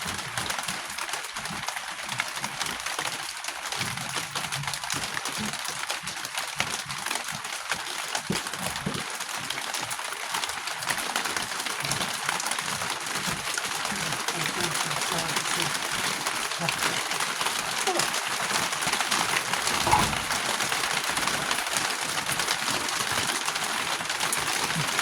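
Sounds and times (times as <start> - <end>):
rain pattering on a roof: 0.0 - 25.0.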